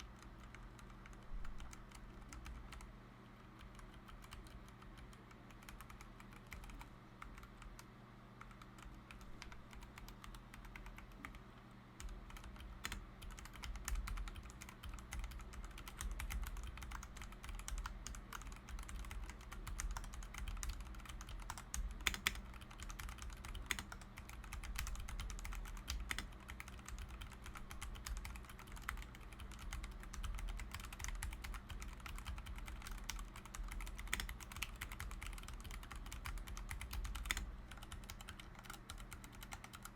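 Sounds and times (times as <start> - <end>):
faint low hum: 0.0 - 39.9
mechanical keyboard typing: 0.0 - 39.9.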